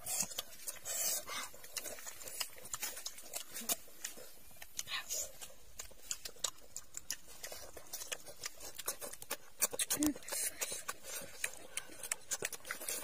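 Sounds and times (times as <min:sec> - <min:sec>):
biting raw cucumber: 0:00.0 - 0:13.0
chewing and lip smacking: 0:00.0 - 0:13.0.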